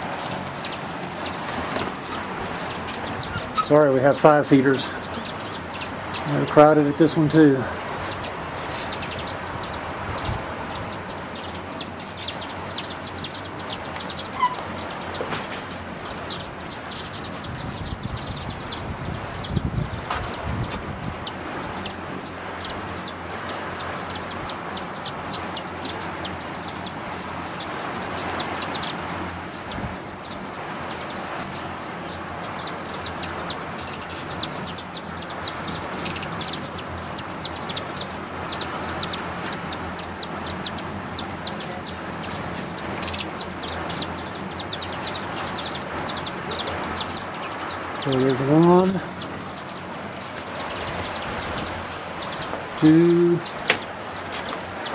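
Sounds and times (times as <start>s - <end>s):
bird chips and chirps: 0.0s - 54.9s
hummingbird wings buzzing: 0.0s - 54.9s.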